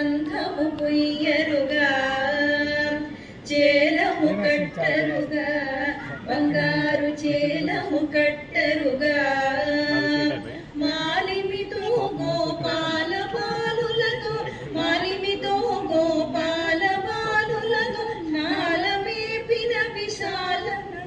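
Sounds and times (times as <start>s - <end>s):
women singing: 0.0s - 21.0s.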